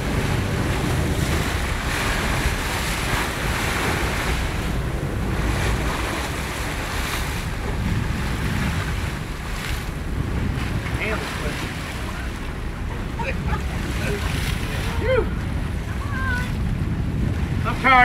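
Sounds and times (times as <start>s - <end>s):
sea waves washing: 0.0s - 18.0s
wind rumbling on microphone: 0.0s - 18.0s.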